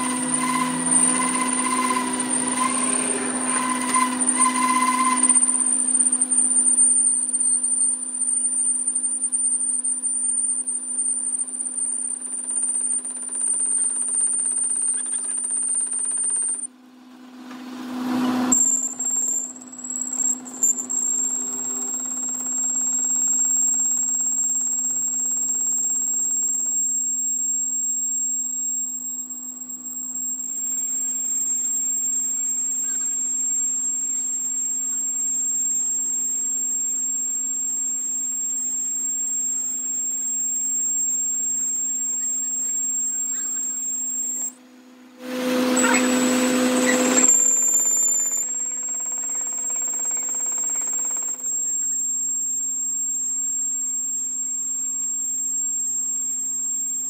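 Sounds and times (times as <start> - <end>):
metal lathe hum and whine: 0.0 - 16.7, 17.8 - 57.0.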